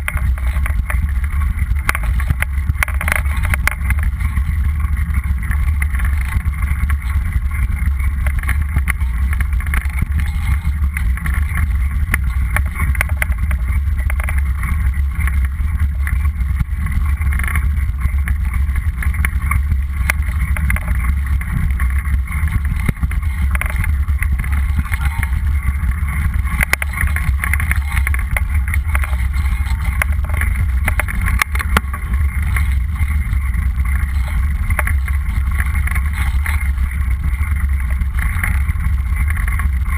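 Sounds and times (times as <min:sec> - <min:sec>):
small rattling clicks: 0:00.0 - 0:39.9
tyres on rough dirt road: 0:00.0 - 0:39.9
wind buffeting microphone: 0:00.0 - 0:39.9.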